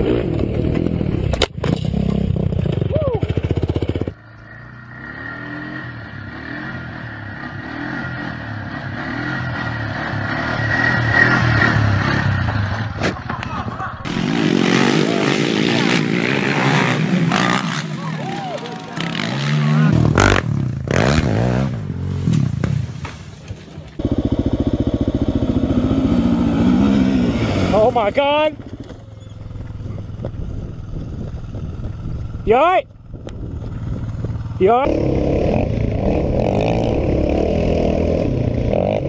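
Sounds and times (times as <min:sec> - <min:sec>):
quad bike engine revving: 0:00.0 - 0:22.9, 0:23.8 - 0:39.0.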